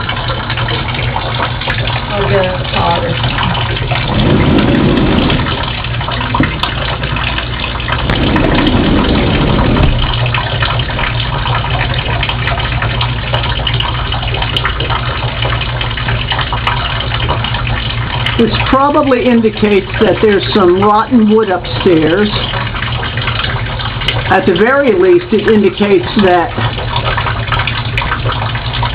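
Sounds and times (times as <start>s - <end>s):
water splashing into bowl: 0.0s - 28.9s.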